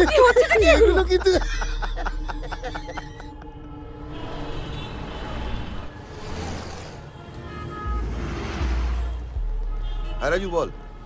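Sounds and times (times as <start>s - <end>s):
background music: 0.0s - 11.0s
street traffic noise: 0.0s - 11.0s
vehicles passing: 0.0s - 11.0s.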